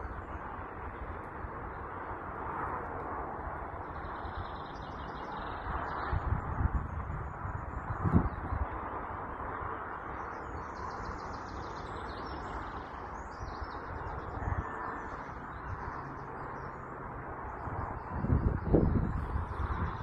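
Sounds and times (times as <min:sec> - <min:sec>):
steady outdoor hum: 0:00.0 - 0:20.0
small birds chirping: 0:03.8 - 0:20.0.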